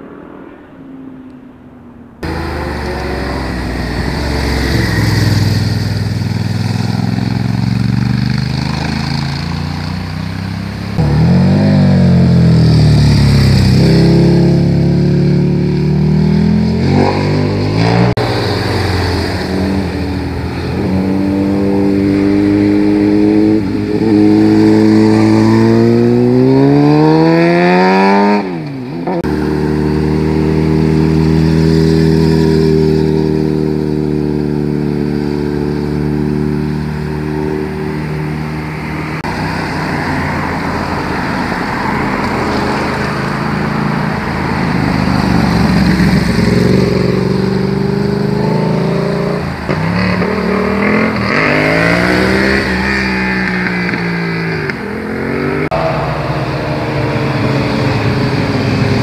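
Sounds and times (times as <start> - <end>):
motorcycle engines accelerating: 0.0 - 59.0.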